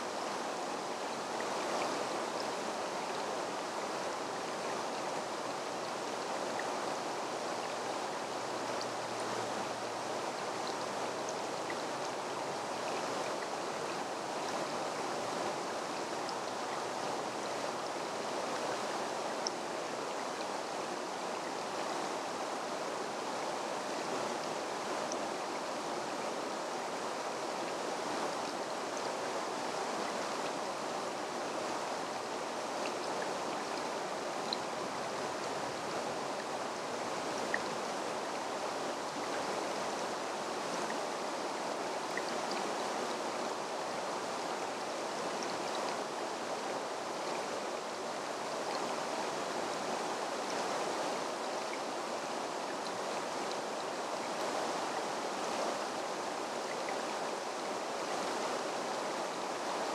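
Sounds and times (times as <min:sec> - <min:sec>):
stream flowing over stones: 0:00.0 - 0:59.9.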